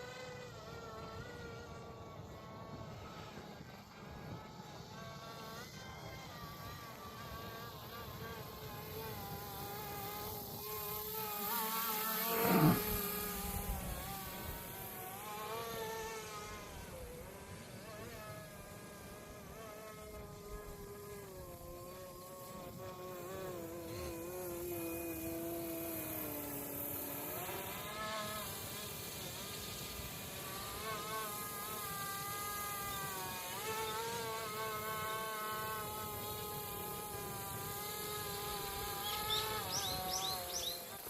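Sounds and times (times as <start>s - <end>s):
rc helicopter motor whine: 0.0s - 41.0s.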